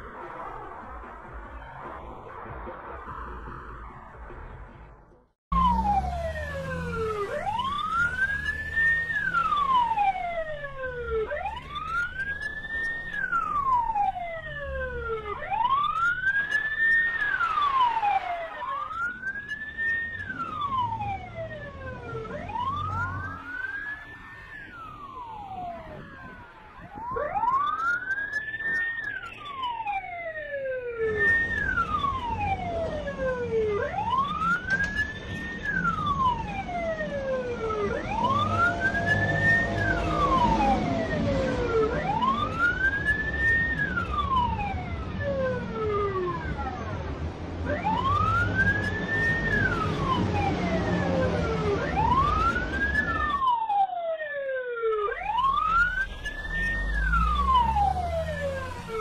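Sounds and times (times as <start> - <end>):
low traffic rumble: 0.0 - 28.2, 29.6 - 53.6, 55.2 - 59.0
police siren wailing: 5.5 - 59.0.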